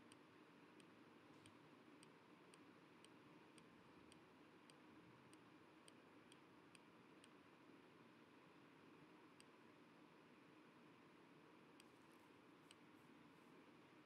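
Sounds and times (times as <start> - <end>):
faint evenly spaced clicks: 0.0 - 14.0.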